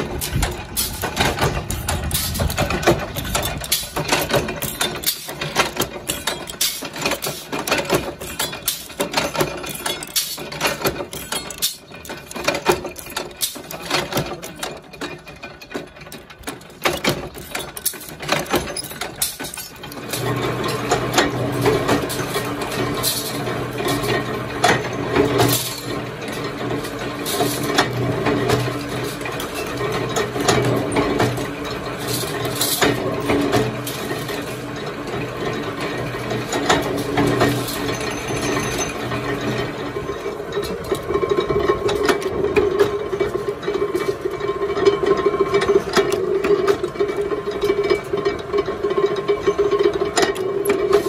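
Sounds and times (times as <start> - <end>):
power presses clanking: 0.0 - 51.0.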